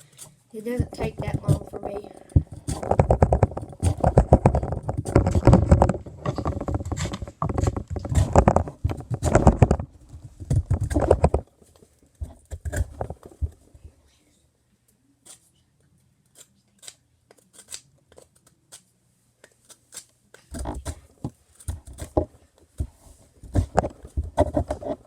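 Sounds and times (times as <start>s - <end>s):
knife shaving wooden stick: 0.0s - 13.7s, 15.2s - 25.0s.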